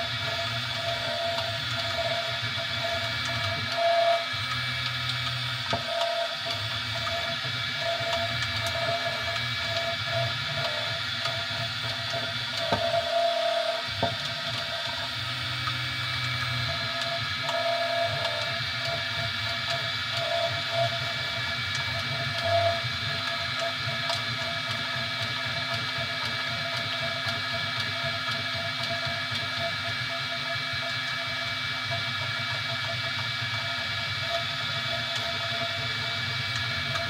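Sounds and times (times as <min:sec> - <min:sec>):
printer hum and whine: 0:00.0 - 0:37.0.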